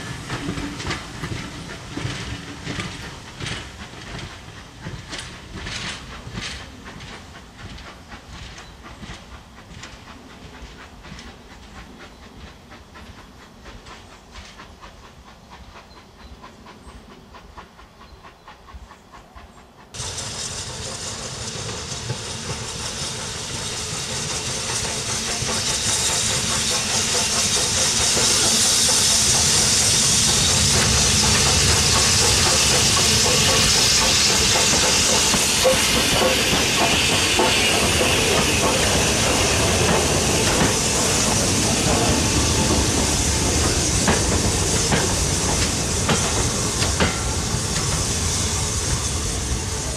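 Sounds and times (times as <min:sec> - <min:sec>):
steam hissing: 0:00.0 - 0:49.9
train coaches rumbling: 0:00.0 - 0:49.9.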